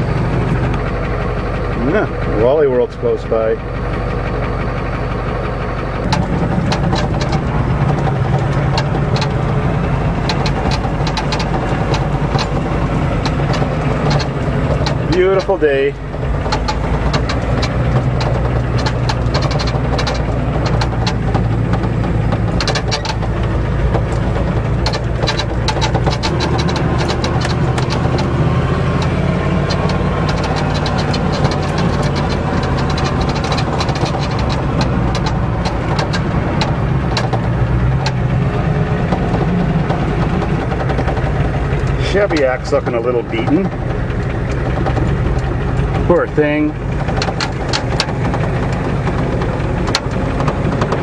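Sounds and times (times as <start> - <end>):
clicks and rattles: 0.0 - 51.0
diesel truck engine running: 0.0 - 51.0.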